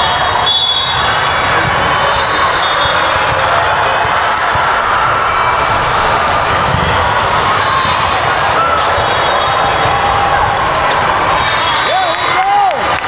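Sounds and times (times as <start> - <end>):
hubbub of voices: 0.0 - 13.0
volleyballs bouncing on court: 0.0 - 13.0.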